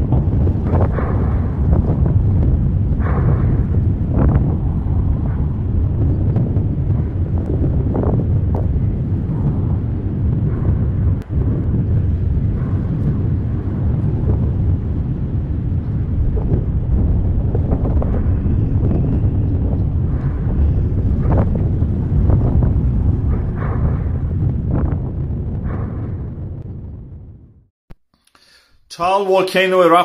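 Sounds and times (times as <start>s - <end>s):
steady low rumbling: 0.0s - 27.7s.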